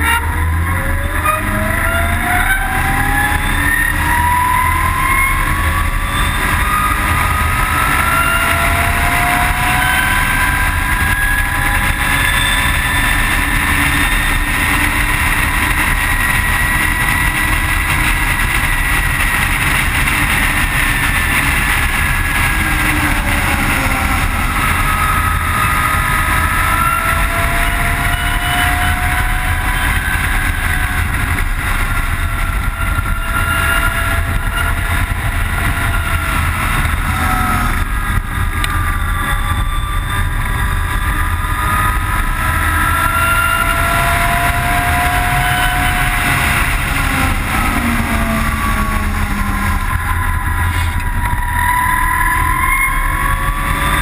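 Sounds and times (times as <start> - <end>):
wind rush on microphone: 0.0 - 54.0
electric motor whine: 0.2 - 54.0.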